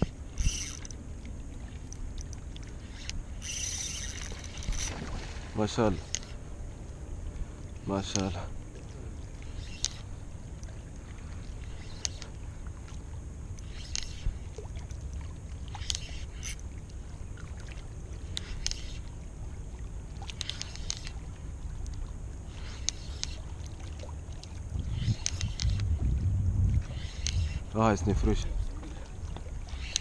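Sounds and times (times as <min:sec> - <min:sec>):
water lapping on rocks: 0:00.0 - 0:06.4, 0:07.4 - 0:30.0
steady low rumble: 0:00.0 - 0:29.8.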